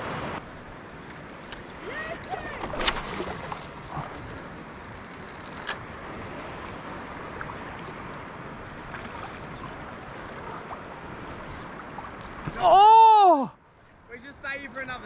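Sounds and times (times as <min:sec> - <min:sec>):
shallow water lapping: 0:00.0 - 0:12.9
wind: 0:00.0 - 0:15.0.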